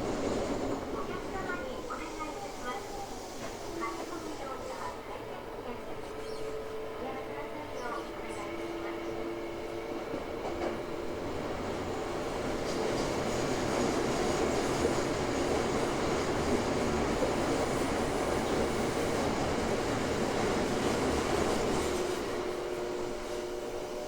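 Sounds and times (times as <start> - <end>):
train inverter and motor hum: 0.0 - 24.0.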